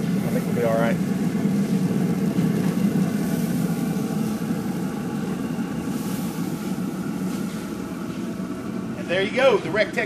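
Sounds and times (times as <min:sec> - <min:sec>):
fan humming: 0:00.0 - 0:10.0.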